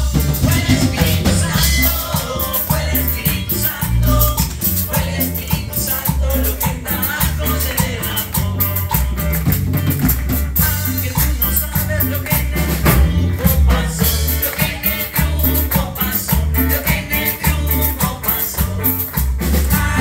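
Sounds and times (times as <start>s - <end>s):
bass line: 0.0s - 20.0s
drum kit beat: 0.0s - 20.0s
electric guitar: 0.0s - 20.0s
people singing: 0.0s - 20.0s.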